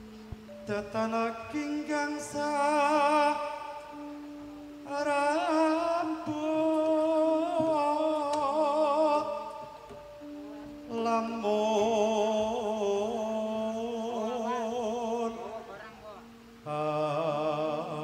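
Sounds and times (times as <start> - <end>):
gamelan held notes: 0.0 - 18.0
person singing with vibrato: 0.0 - 18.0.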